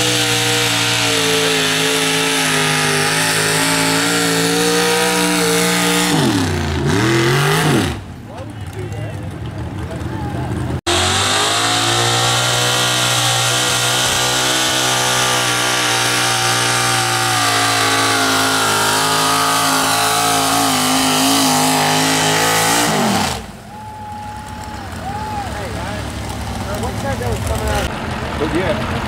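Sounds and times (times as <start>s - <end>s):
truck engine at high revs: 0.0s - 29.0s.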